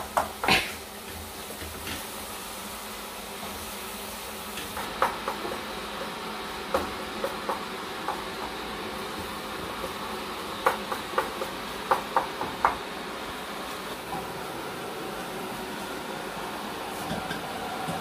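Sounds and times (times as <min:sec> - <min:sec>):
steady hiss: 0:00.0 - 0:17.9.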